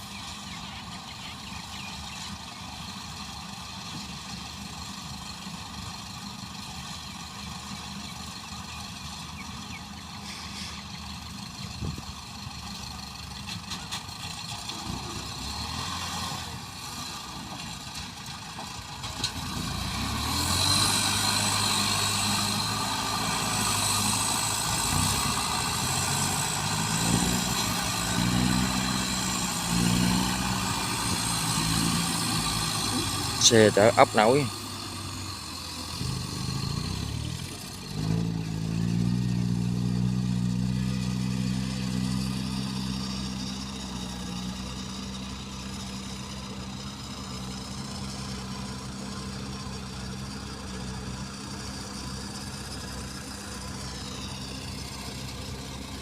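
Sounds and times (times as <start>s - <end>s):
farm machine engines running: 0.0s - 56.0s.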